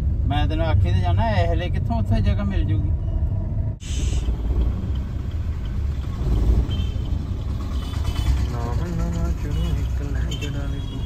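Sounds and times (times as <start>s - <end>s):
car engine: 0.0s - 11.0s
road rumble: 0.0s - 11.0s.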